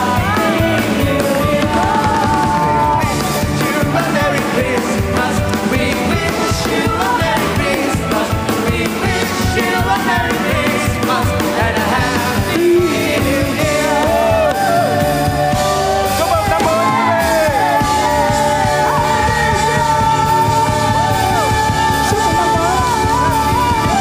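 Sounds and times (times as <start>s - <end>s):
band music with singing: 0.0s - 24.0s.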